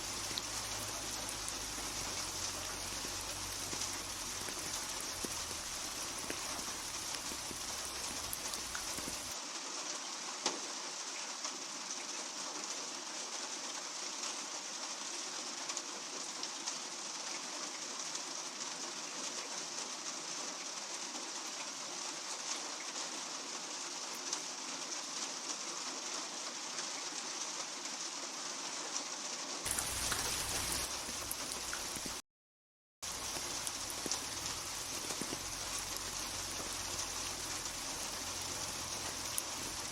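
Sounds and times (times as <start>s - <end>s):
steady rain falling: 0.0s - 32.2s, 33.0s - 39.9s.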